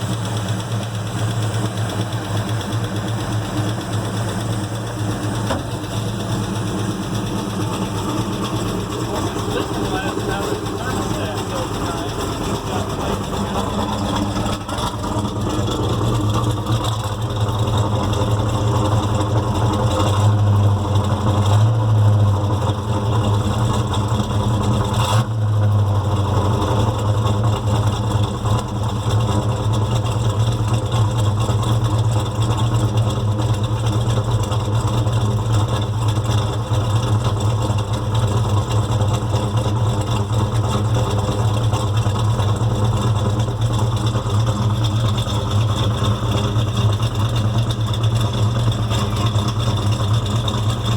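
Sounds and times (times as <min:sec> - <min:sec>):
ticking valvetrain: 0:00.0 - 0:25.1, 0:26.5 - 0:50.9
engine running: 0:00.0 - 0:50.9.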